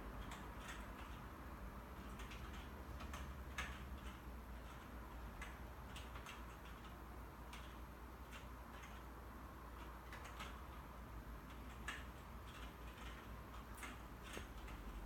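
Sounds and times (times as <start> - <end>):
keyboard typing: 0.1 - 15.0.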